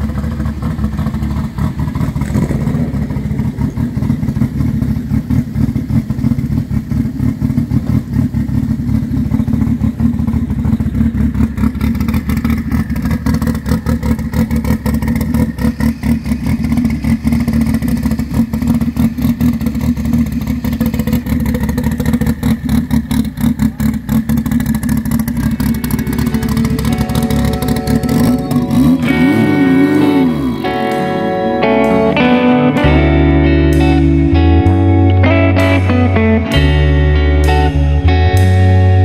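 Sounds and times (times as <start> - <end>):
car engine idling unevenly: 0.0 - 39.0.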